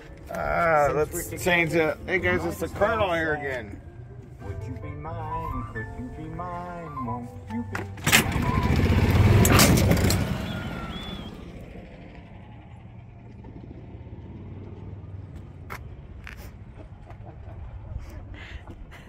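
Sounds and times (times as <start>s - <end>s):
car rumbling: 0.0s - 19.0s.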